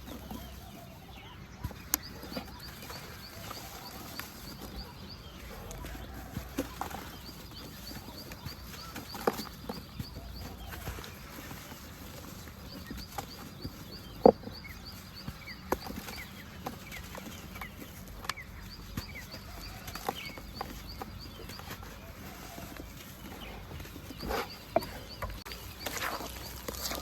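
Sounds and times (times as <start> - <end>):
birds chirping: 0.0 - 27.0
dry dirt crumbling cracks: 0.0 - 27.0.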